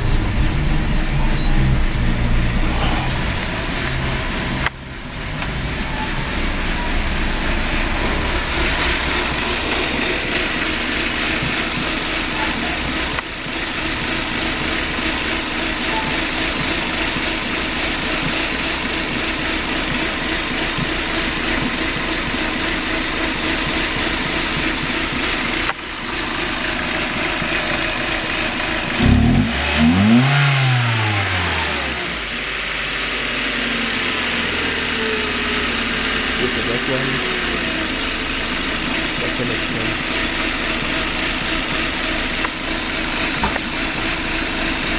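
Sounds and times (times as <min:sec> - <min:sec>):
car engine idling roughly: 0:00.0 - 0:44.9
engine revving: 0:00.0 - 0:44.9.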